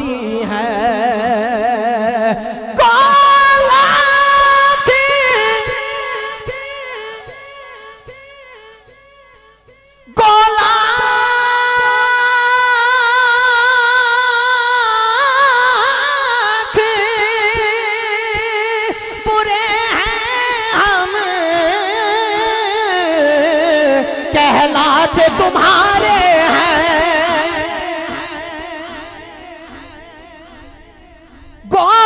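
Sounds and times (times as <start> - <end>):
man singing long notes: 0.0 - 8.7, 9.8 - 32.0.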